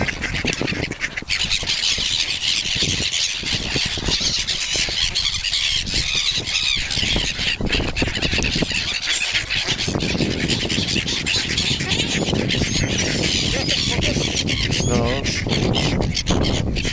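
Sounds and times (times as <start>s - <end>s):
swans and ducks calling: 0.0s - 16.9s.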